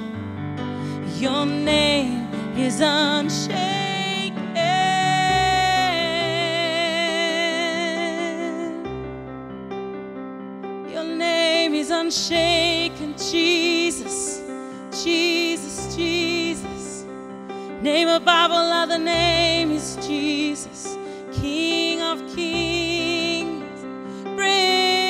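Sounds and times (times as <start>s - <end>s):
woman singing into a microphone: 0.7s - 8.9s, 10.9s - 25.0s.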